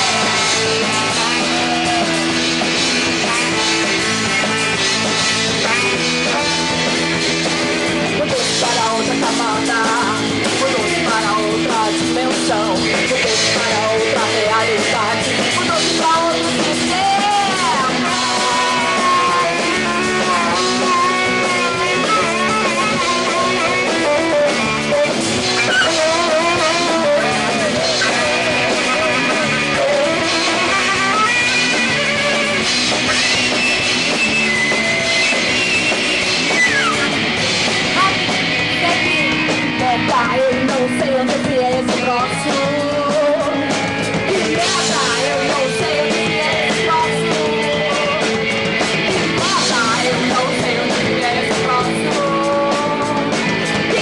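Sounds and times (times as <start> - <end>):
person singing: 0.0 - 37.2, 37.9 - 54.0
drum kit with cymbals: 0.0 - 54.0
guitar: 0.0 - 54.0.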